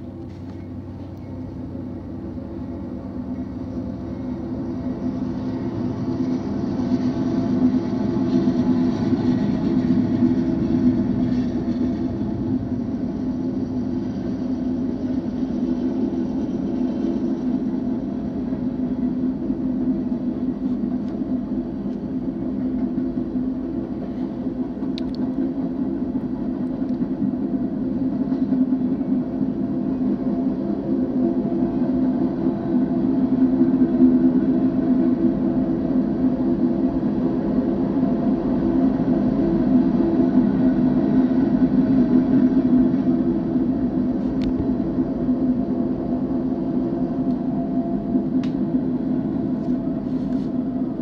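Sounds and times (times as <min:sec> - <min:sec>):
freight train rumbling on rails: 0:00.0 - 0:51.0.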